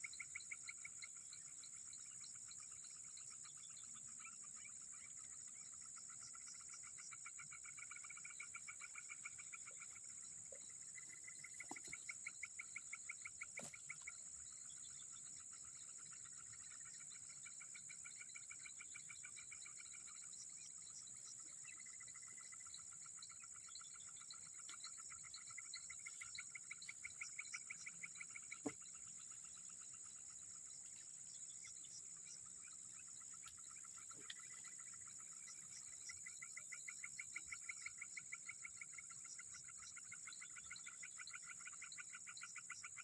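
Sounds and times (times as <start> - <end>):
insects and frogs chorus: 0.0 - 43.0.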